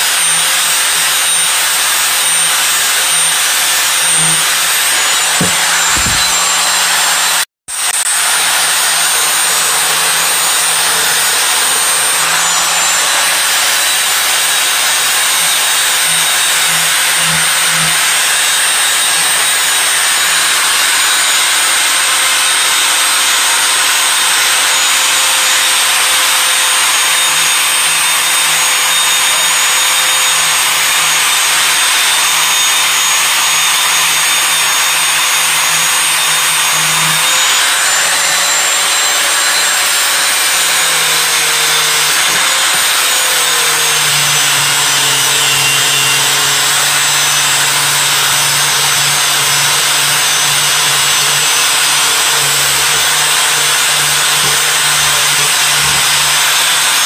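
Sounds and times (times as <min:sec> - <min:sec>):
angle grinder grinding metal: 0:00.0 - 0:57.0.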